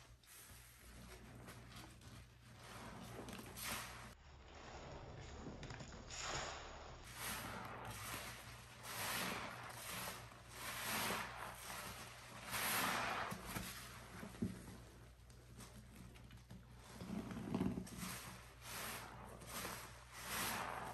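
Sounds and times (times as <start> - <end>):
wet sponge squishing foam: 0.0 - 20.9.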